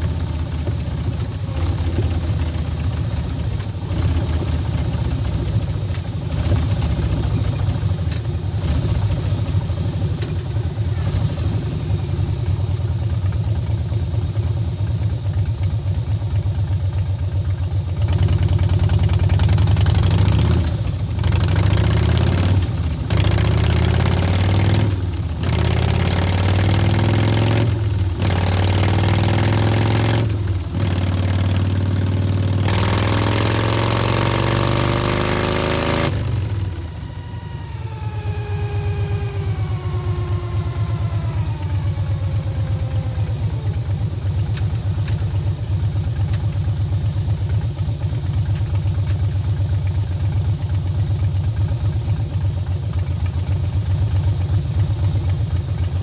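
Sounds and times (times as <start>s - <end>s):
motorcycle engine revving: 0.0s - 15.7s, 17.9s - 48.1s.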